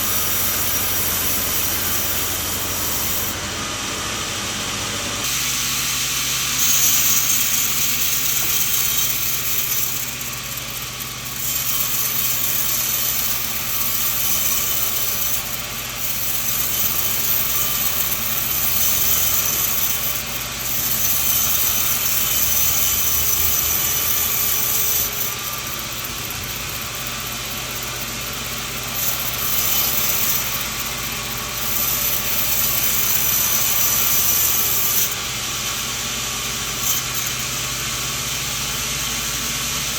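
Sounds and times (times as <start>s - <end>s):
low machine hum: 0.0s - 39.9s
saw blade hissing through wood: 0.0s - 39.9s.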